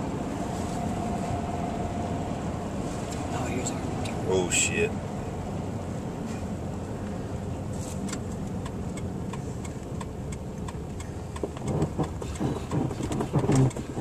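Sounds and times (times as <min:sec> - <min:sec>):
engine and tyres rumbling: 0:00.0 - 0:14.0.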